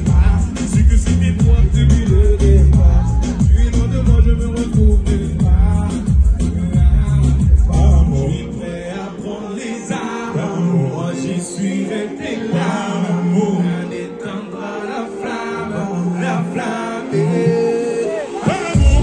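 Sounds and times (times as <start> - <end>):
men singing into microphones: 0.0 - 19.0
pop backing track: 0.0 - 19.0.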